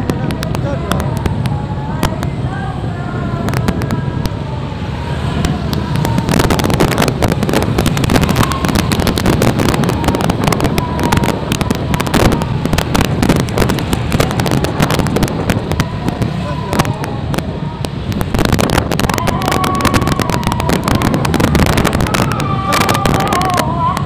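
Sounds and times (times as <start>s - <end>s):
firecrackers popping: 0.0s - 2.3s, 3.4s - 4.4s, 5.4s - 24.0s
road traffic rumble: 0.0s - 24.0s.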